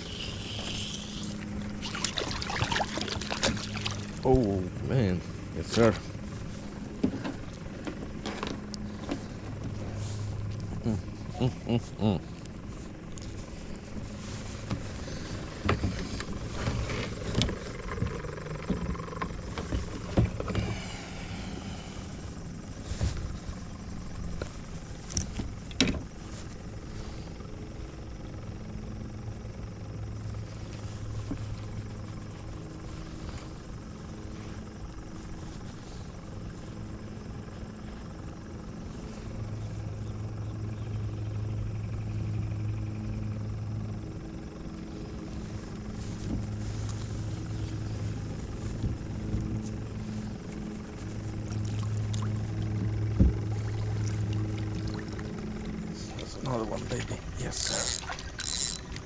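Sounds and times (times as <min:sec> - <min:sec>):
motor droning: 0:00.0 - 0:59.0.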